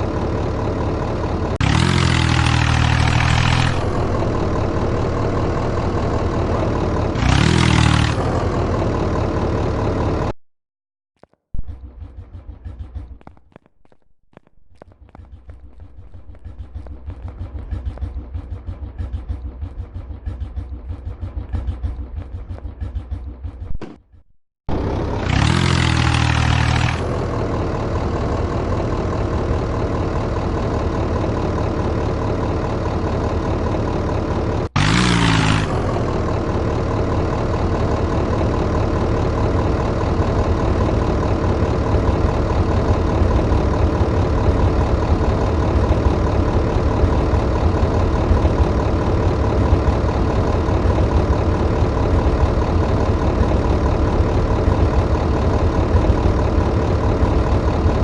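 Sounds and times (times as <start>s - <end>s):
tractor engine running: 0.0s - 10.4s, 11.2s - 58.0s.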